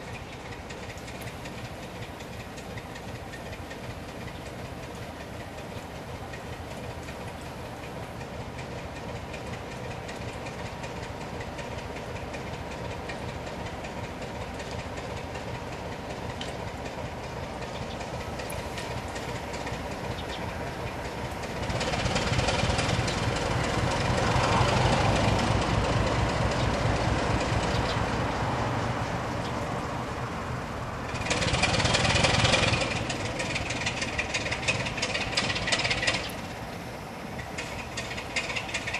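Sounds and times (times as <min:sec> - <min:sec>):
locomotive diesel engine humming: 0:00.0 - 0:38.9.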